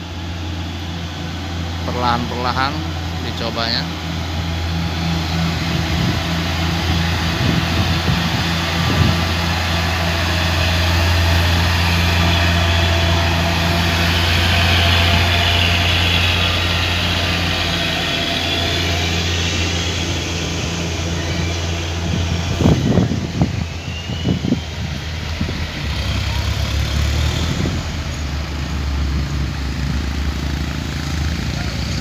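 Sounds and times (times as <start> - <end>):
truck diesel engine droning: 0.0 - 32.0.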